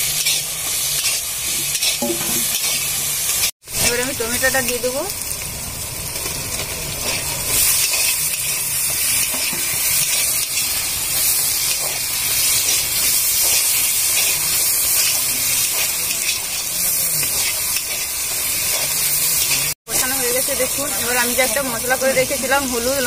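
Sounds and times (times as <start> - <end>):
vegetables sizzling in hot oil: 0.0 - 23.0.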